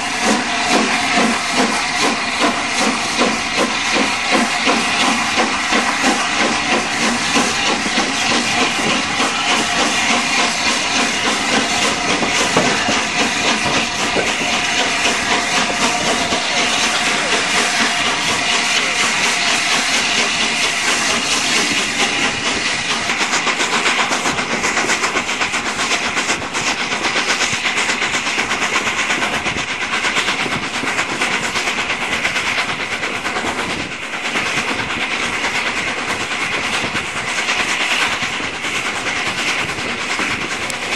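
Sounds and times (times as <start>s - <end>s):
carriages running on rails: 0.0s - 40.9s
hissing steam: 0.0s - 40.9s
steam locomotive chuffing: 0.0s - 40.9s.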